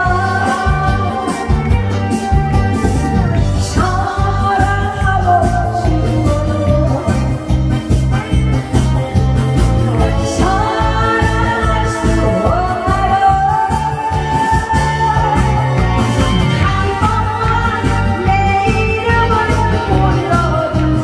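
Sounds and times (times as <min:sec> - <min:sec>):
person singing: 0:00.0 - 0:08.9, 0:09.9 - 0:21.0
karaoke backing track with beat: 0:00.0 - 0:21.0.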